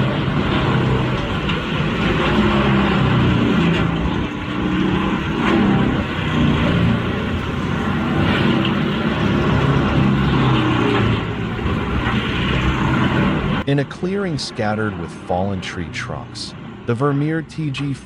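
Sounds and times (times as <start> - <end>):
diesel machinery under load: 0.0 - 18.0.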